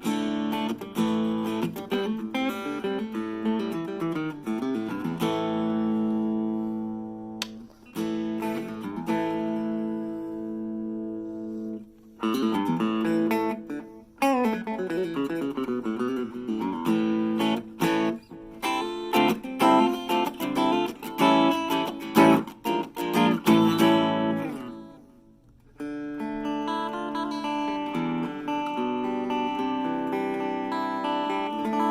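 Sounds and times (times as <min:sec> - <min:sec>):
electric guitar through small amp: 0:00.0 - 0:31.9.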